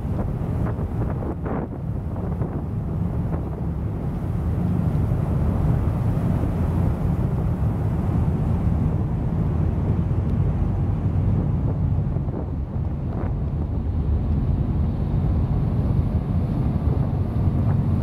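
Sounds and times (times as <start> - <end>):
churning rush of wake: 0.0 - 18.0
ship engine rumble: 0.0 - 18.0.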